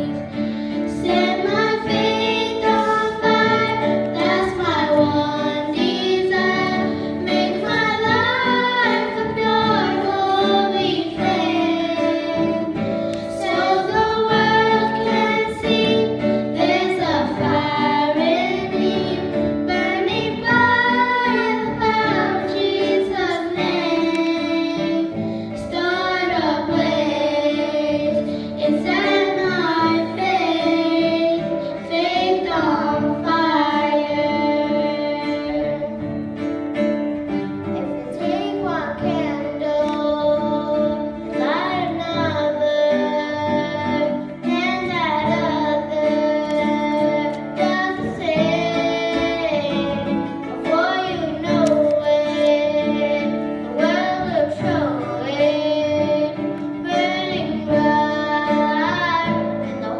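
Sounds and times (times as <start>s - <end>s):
girls singing into microphones: 0.0s - 36.4s, 37.6s - 59.9s
instrumental accompaniment: 0.0s - 59.9s.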